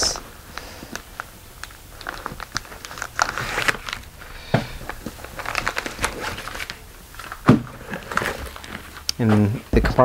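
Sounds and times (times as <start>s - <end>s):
fabric bag rustling: 0.9s - 9.1s.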